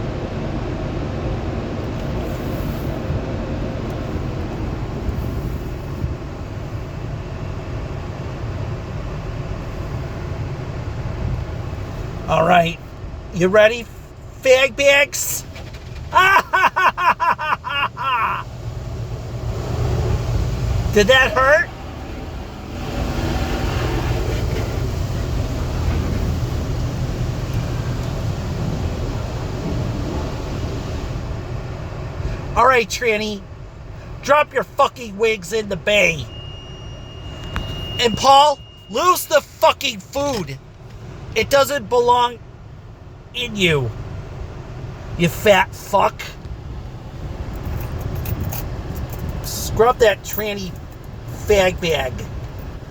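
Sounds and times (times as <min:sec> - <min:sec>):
car wash machinery rumbling: 0:00.0 - 0:52.9.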